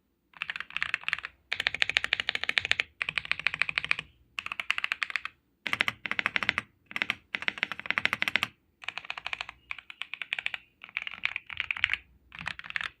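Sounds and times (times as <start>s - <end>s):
mechanical keyboard typing: 0.4s - 13.0s.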